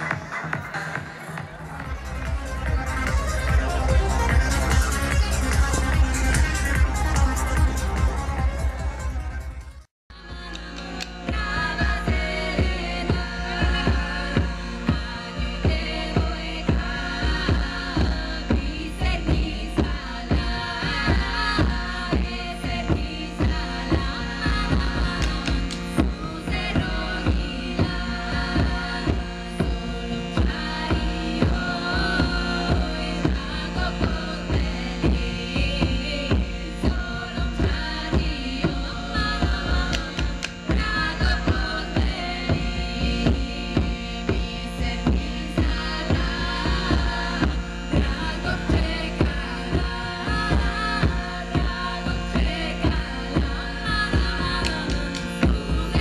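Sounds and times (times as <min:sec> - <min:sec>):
steady drum beat: 0:00.0 - 0:56.0
women singing together: 0:10.2 - 0:56.0.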